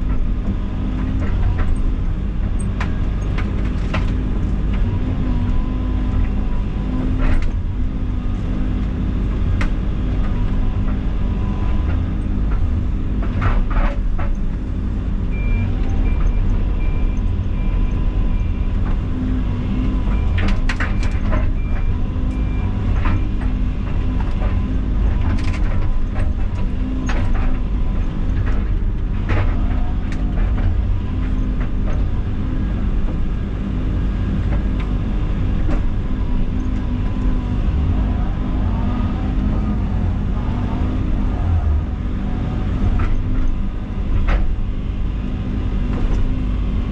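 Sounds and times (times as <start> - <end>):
diesel excavator engine: 0.0 - 46.9.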